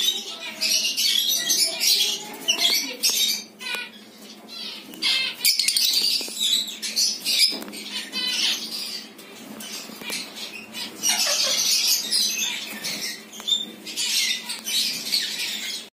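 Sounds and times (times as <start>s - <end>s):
lovebirds squawking and chirping: 0.0s - 15.9s.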